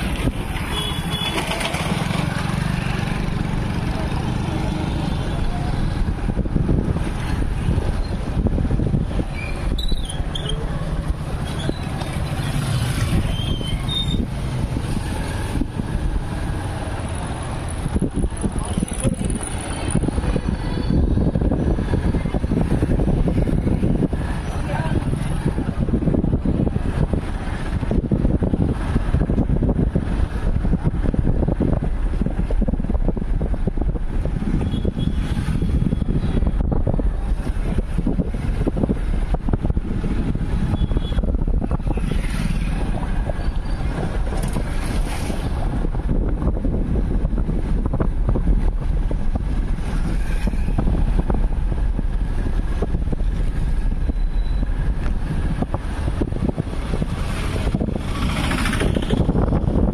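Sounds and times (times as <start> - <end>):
moving vehicle: 0.0 - 59.9
wind buffeting microphone: 0.0 - 59.9.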